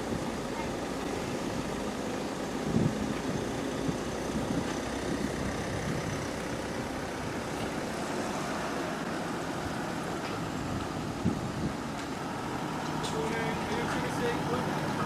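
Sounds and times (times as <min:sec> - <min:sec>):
outdoor background noise: 0:00.0 - 0:15.0
vehicle engine running: 0:00.0 - 0:15.0.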